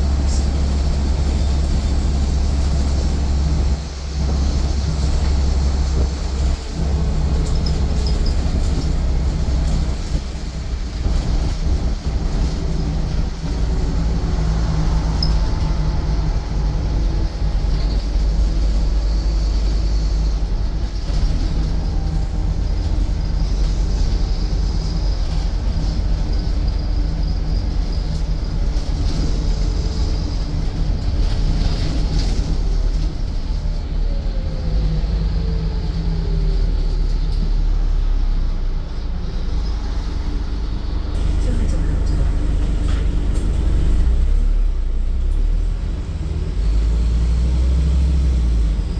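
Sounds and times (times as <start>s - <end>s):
bus diesel engine running: 0.0s - 48.9s.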